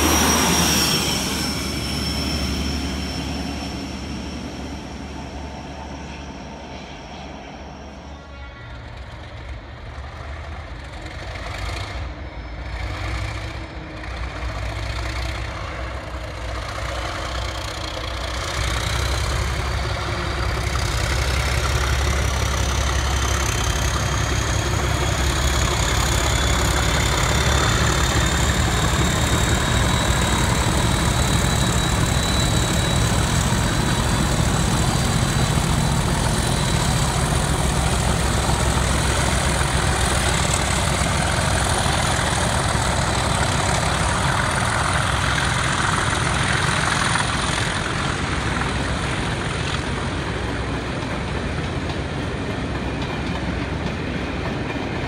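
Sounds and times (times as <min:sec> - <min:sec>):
diesel locomotive engines rumbling: 0:00.0 - 0:55.0.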